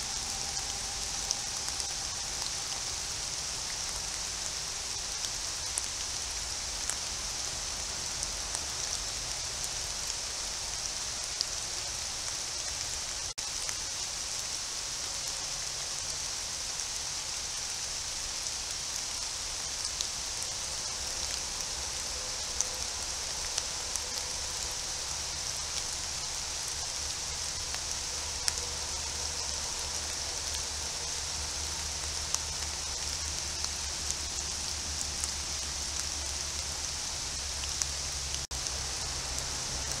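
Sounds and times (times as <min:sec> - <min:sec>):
rain on foliage: 0:00.0 - 0:40.0.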